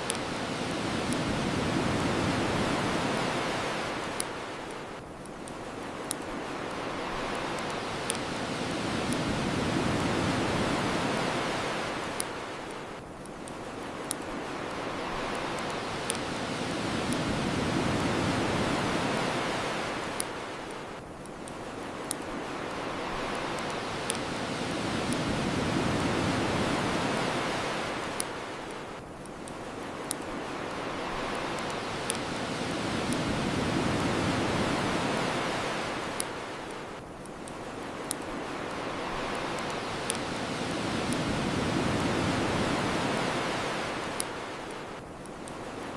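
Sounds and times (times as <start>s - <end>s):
bonfire crackling and popping: 0.0s - 45.9s
ocean surf washing ashore: 0.0s - 45.9s.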